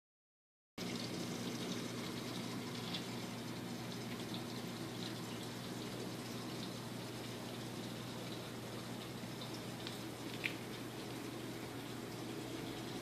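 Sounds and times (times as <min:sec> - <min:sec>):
low pump hum: 0:00.8 - 0:13.0
water trickling and splashing: 0:00.8 - 0:13.0.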